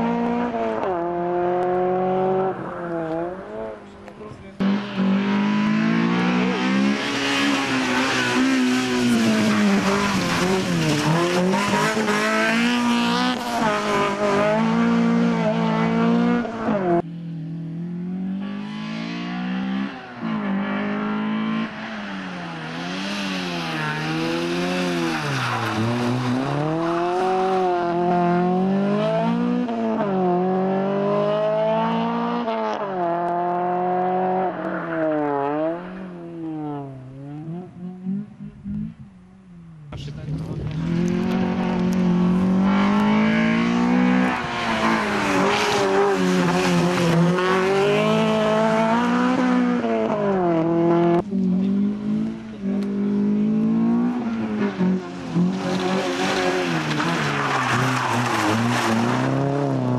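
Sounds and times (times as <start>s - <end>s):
car engine revving hard: 4.6s - 17.0s, 22.6s - 39.0s, 40.0s - 59.9s.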